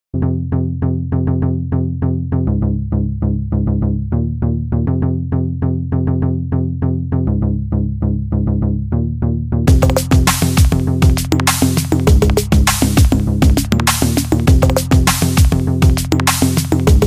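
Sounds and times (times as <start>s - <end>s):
sustained synth bass line: 0.1s - 17.0s
plucked synth notes: 0.2s - 17.0s.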